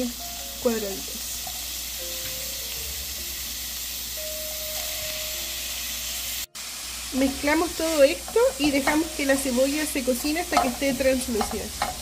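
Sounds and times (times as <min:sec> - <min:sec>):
meat and onion sizzling in pan: 0:00.0 - 0:12.0.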